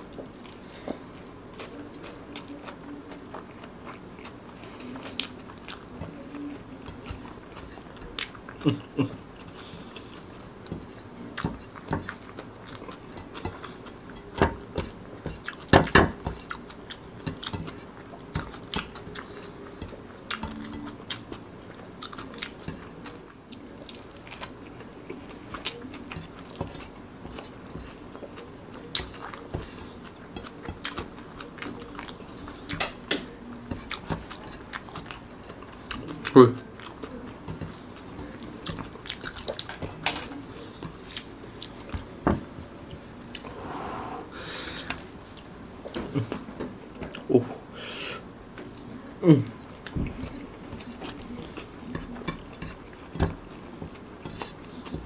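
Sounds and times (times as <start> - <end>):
wet chewing sounds: 0.4 - 42.1, 49.8 - 55.0.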